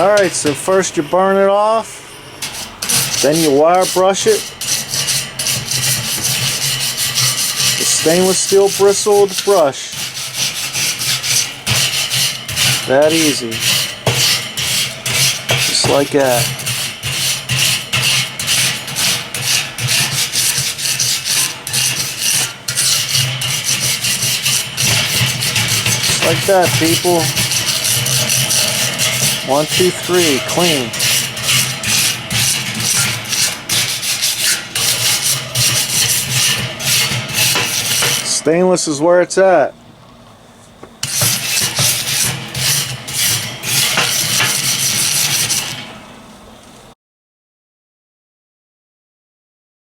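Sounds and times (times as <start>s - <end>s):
wire brush scrubbing metal grate: 0.0s - 39.0s, 41.0s - 46.0s.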